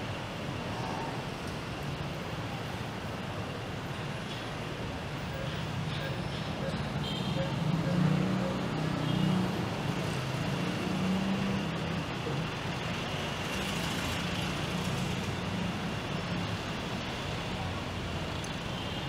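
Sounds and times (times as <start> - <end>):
road noise: 0.0 - 19.0
vehicle engines passing: 0.0 - 19.0.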